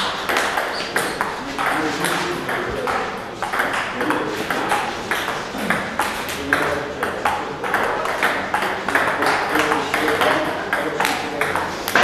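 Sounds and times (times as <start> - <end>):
onlookers' voices: 0.7 - 12.0.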